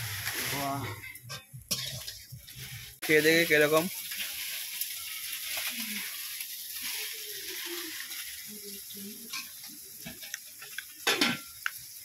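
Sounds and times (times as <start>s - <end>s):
food frying in hot oil: 0.0s - 12.0s.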